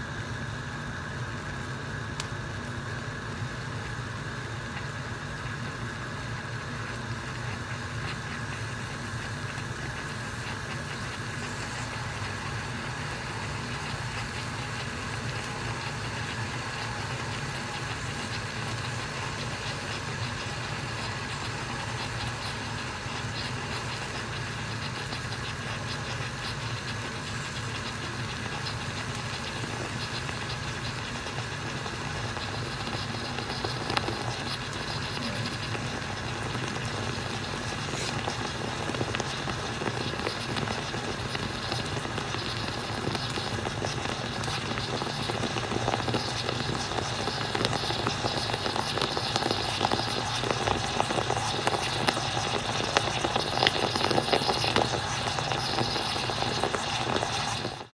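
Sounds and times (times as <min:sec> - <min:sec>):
moka pot hissing and sputtering: 0:00.0 - 0:57.9.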